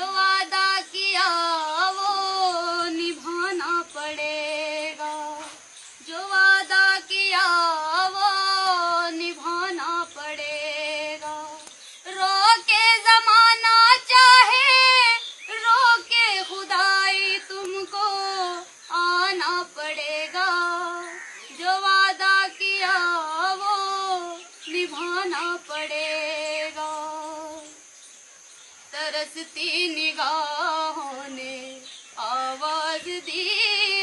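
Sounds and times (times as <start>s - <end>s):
woman singing unaccompanied: 0.0s - 28.0s, 28.8s - 34.0s.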